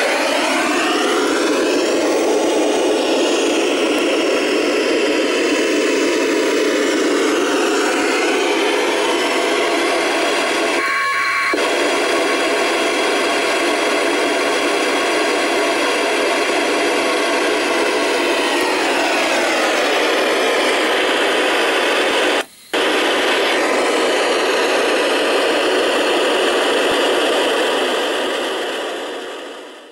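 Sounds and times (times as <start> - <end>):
radio receiver hiss: 0.0 - 29.9.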